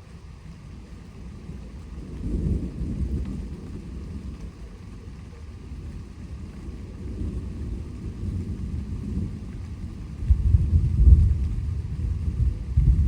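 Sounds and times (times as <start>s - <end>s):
faint rain hiss: 0.0s - 13.0s
thunder rumbling: 1.0s - 13.0s.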